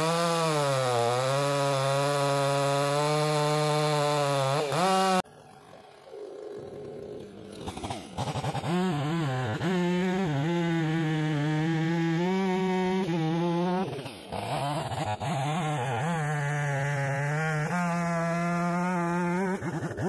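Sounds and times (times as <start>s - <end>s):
chainsaw cutting log: 0.0s - 20.0s.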